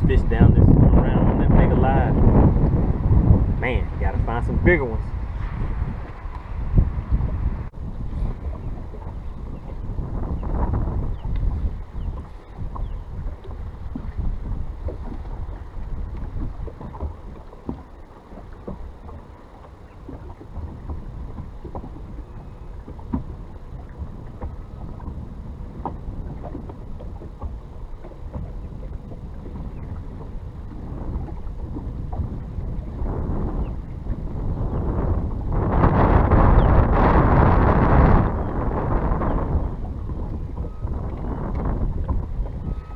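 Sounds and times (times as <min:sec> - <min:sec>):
waves slapping against boat hull: 0:00.0 - 0:42.9
wind buffeting microphone: 0:00.0 - 0:42.9.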